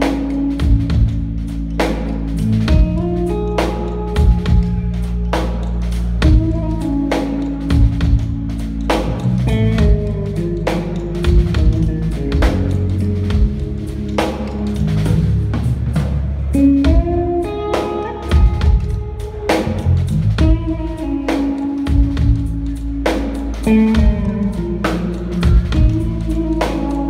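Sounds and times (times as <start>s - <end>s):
electric guitar lead: 0.0s - 27.0s.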